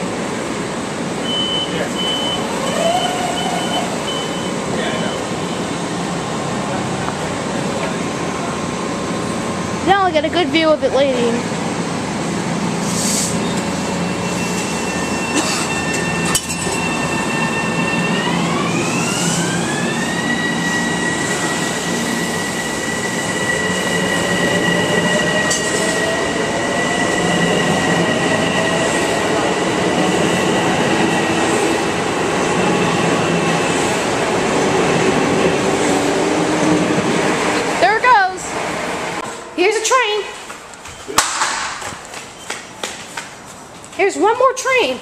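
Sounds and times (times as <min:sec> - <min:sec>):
train cars rumbling: 0:00.0 - 0:45.0.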